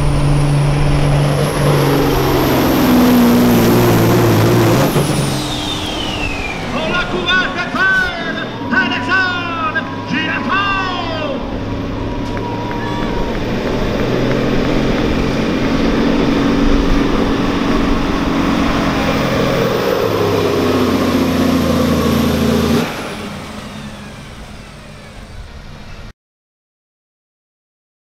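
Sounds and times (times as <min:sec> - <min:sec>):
diesel truck engine under load: 0:00.0 - 0:26.1.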